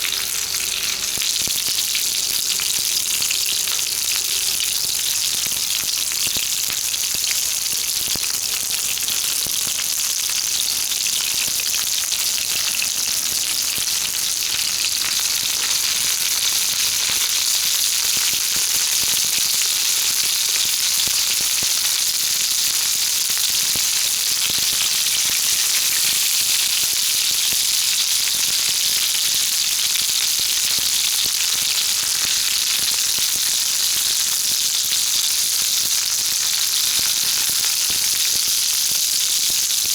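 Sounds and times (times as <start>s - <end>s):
mushrooms sizzling in oil: 0.0s - 39.9s.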